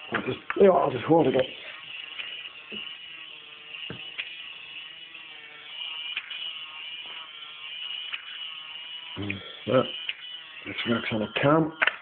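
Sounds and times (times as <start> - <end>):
toy motor and gears whirring: 0.0 - 12.0.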